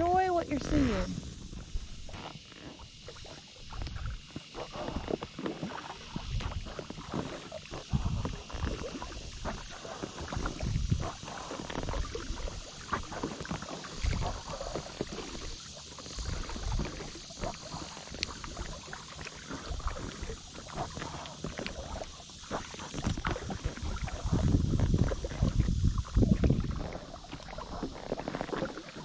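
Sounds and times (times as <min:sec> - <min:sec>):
wind rumbling on microphone: 0:00.0 - 0:29.0
paddle splashing in water: 0:00.3 - 0:29.0.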